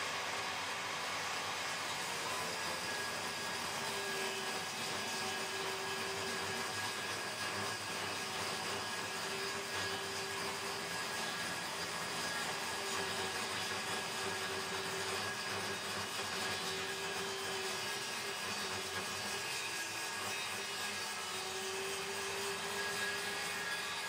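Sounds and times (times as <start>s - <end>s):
cordless drill spinning: 0.0s - 20.6s
table saw cutting wood: 0.0s - 24.0s.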